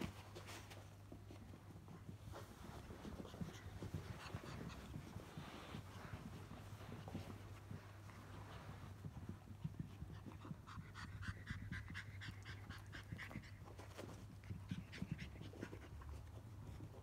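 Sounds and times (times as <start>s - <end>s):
puppy panting quickly: 2.6s - 17.0s.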